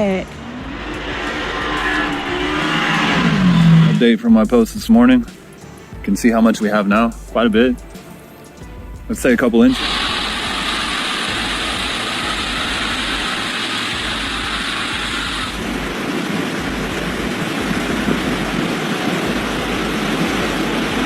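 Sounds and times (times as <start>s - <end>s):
storm wind buffeting microphone: 0.0s - 8.0s, 8.6s - 21.0s.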